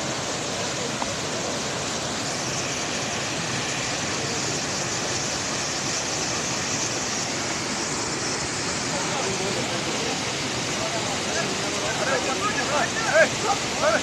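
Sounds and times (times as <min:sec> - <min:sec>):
stream rushing over boulders: 0:00.0 - 0:14.0.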